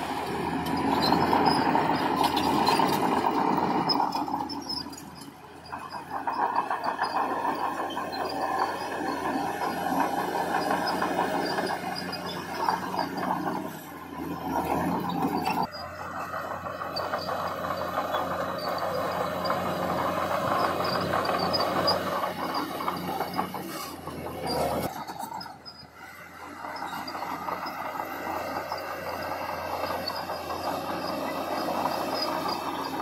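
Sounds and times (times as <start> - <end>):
diesel engine running: 0.0 - 33.0
loud grinding scraping clatter: 0.0 - 33.0.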